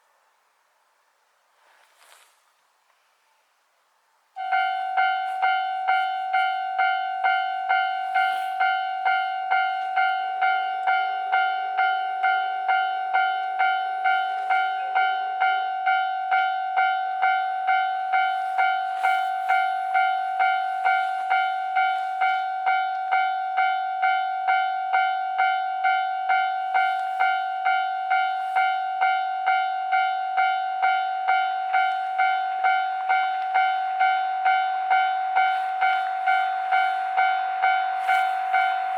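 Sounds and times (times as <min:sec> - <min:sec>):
level crossing warning bell: 0:04.4 - 0:38.9.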